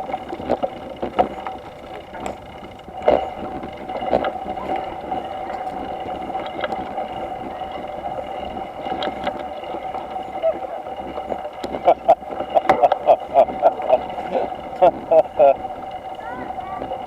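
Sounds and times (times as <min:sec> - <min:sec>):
bicycle knocking on bumps: 0:00.0 - 0:17.0
bicycle rattling over bumpy road: 0:00.0 - 0:17.0.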